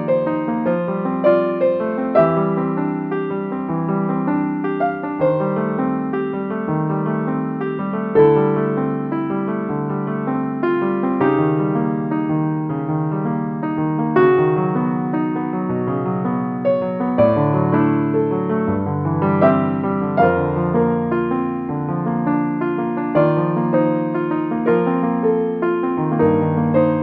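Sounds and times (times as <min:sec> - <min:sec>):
gentle piano piece: 0:00.0 - 0:27.0.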